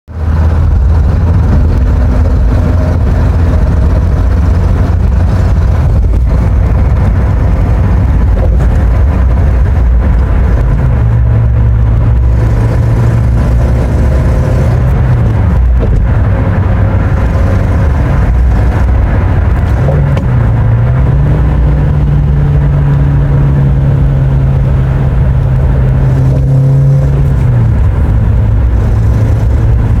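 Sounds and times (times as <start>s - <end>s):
car engine accelerating: 0.1s - 30.0s.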